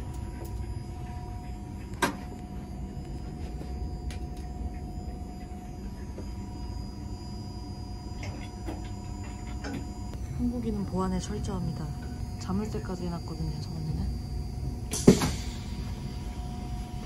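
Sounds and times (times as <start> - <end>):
electrical hum: 0.0 - 17.0
train running low rumble: 0.0 - 17.0.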